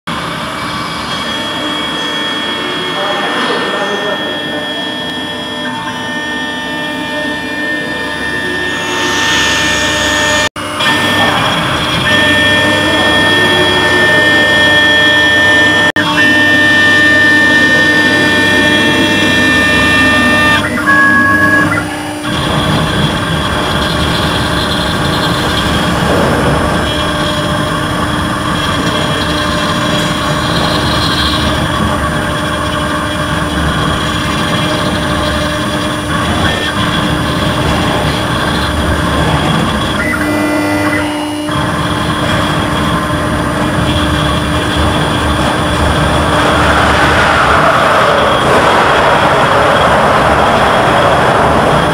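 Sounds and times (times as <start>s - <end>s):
cutter grating on metal: 0.1s - 51.9s
router spindle whine: 0.1s - 51.9s.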